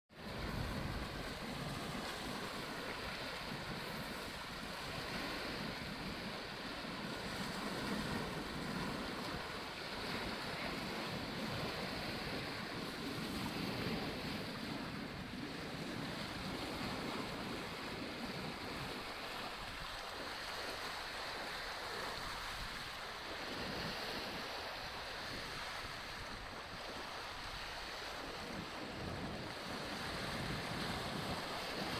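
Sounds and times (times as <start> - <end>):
choppy sea water rushing: 0.1 - 31.9
wind gusting over microphone: 0.2 - 31.9.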